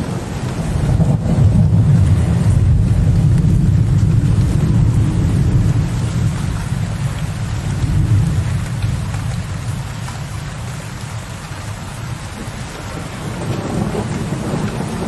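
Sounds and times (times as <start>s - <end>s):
distant rolling thunder: 0.0s - 15.0s
rain pattering on window ledge: 0.0s - 15.0s.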